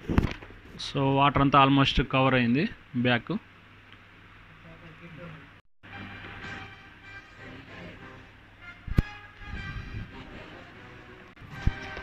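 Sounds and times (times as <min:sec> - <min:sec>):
air cooler fan running: 0:00.0 - 0:12.0.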